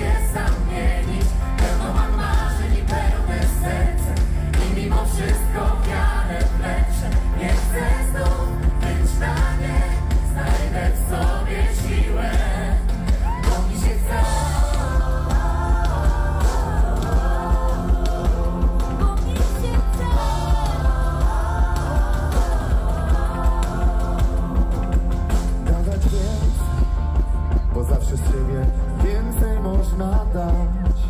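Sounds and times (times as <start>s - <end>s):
several voices singing: 0.0s - 26.9s
live pop band playing: 0.0s - 31.0s.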